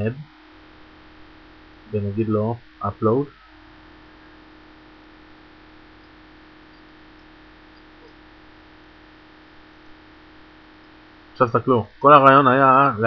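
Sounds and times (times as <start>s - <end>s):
background hiss: 0.0s - 13.0s
low mains hum: 0.0s - 13.0s.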